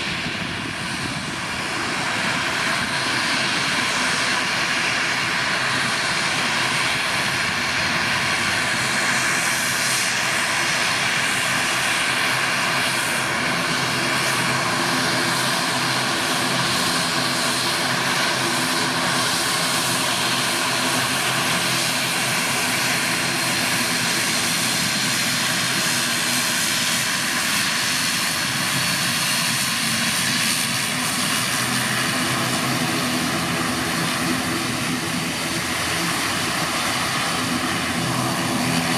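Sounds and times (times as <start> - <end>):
turboprop engines droning: 0.0 - 38.9.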